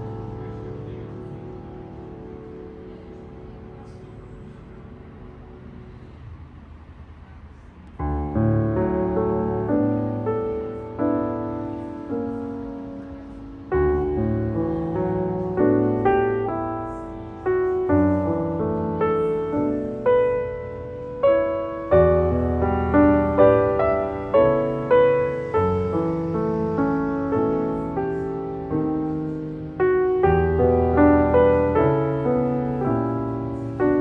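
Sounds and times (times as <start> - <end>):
slow solo piano: 0.0 - 6.6, 7.6 - 34.0.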